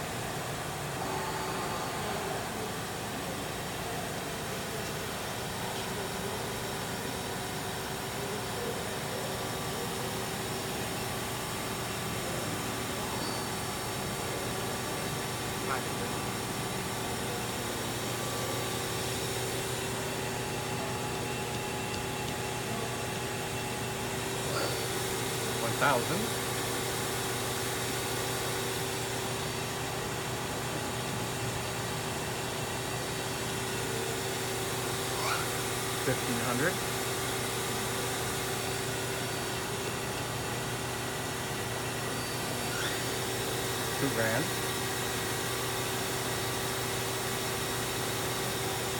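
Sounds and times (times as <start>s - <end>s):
steady hum: 0.0s - 7.6s, 9.8s - 46.2s.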